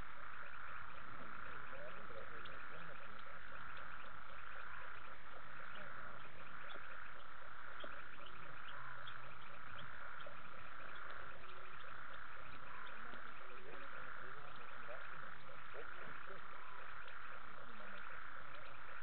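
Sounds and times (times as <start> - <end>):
frogs clicking calls: 0.0 - 19.0
insects buzzing drone: 0.0 - 19.0.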